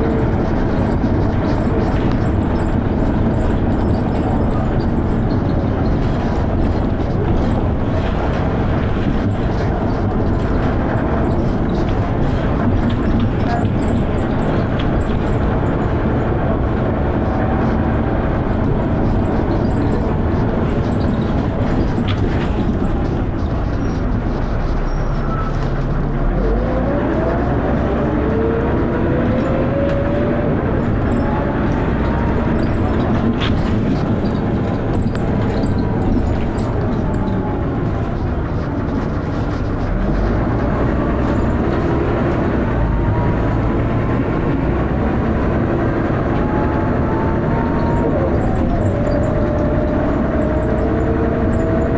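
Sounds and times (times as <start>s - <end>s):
bus engine running: 0.0s - 51.9s.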